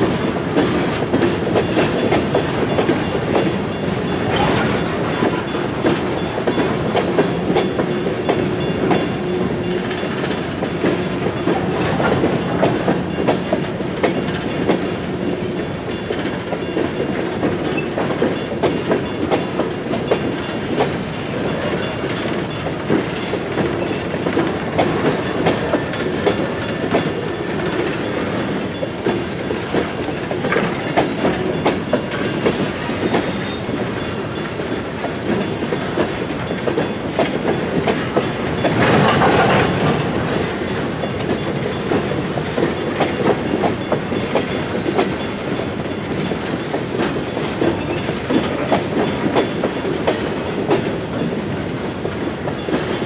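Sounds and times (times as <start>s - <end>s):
train wheels rumbling on rails: 0.0s - 53.0s
wheels clacking on track: 0.0s - 53.0s.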